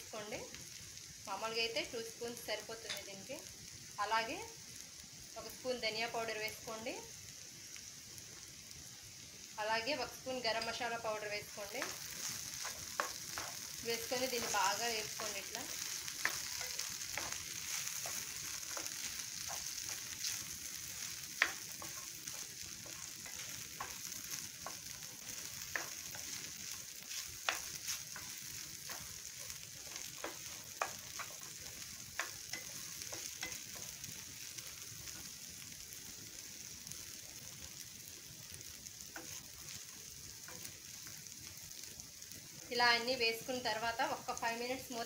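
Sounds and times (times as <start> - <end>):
food sizzling in oil: 0.0 - 45.0.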